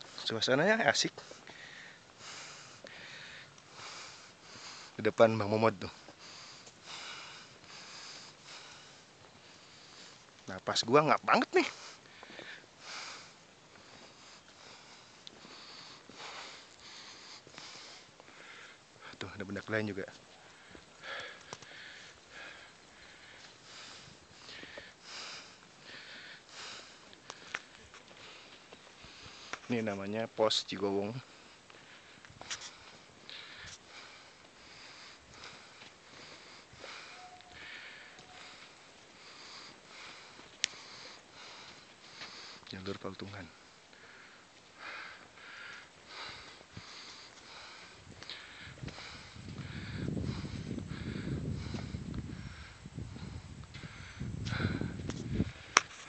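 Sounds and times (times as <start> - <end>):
person breathing hard: 1.2 - 5.0, 5.9 - 10.3, 11.7 - 19.2, 20.3 - 29.7, 31.2 - 42.7, 43.5 - 56.0.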